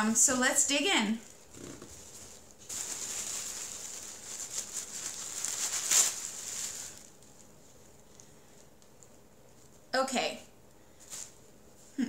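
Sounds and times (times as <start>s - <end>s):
plastic wrapping crinkling: 0.8s - 9.9s, 11.0s - 11.8s.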